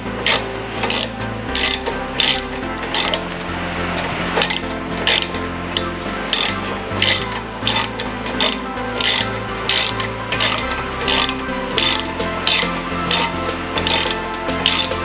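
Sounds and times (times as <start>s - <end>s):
faint background music: 0.0s - 15.0s
ratchet wrench clicking: 0.2s - 3.4s, 4.4s - 15.0s.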